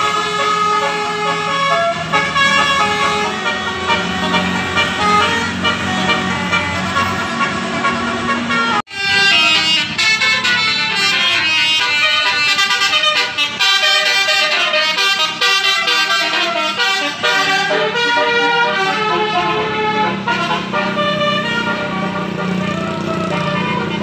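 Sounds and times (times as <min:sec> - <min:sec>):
multi-tone horns playing melodies: 0:00.0 - 0:24.0.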